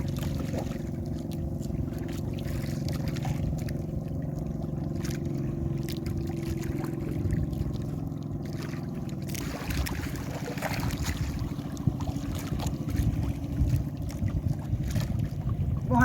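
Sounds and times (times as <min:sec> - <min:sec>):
boat engine running: 0:00.0 - 0:16.0
water splashing against hull: 0:00.0 - 0:16.0.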